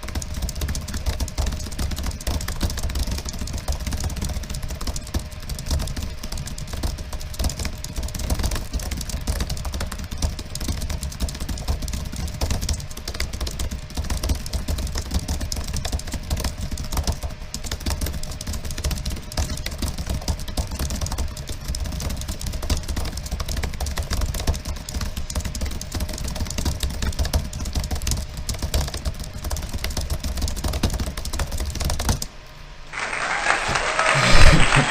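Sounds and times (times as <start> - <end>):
fast keyboard typing: 0.0 - 32.2, 33.0 - 34.9.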